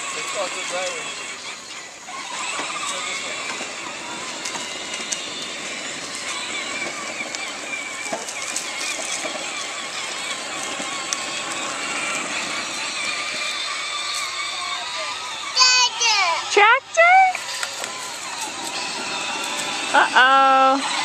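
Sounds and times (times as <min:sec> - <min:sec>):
plastic wheels rumbling on asphalt: 0:00.0 - 0:21.0
toy tractor electric motor whine: 0:00.0 - 0:21.0.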